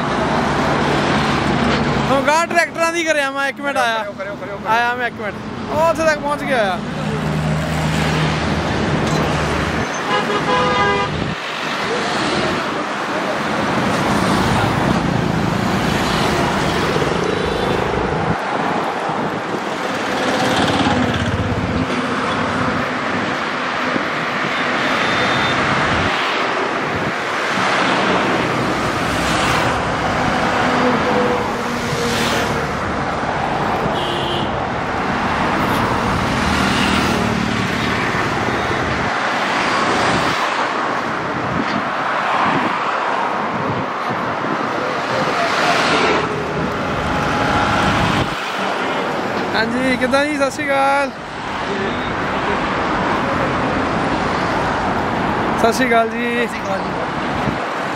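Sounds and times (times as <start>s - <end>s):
highway traffic rushing: 0.0s - 57.9s.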